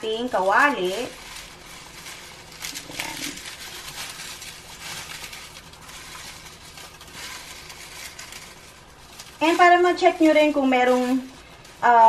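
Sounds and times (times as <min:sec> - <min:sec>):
dry leaves rustling and crackling: 0:00.0 - 0:12.0.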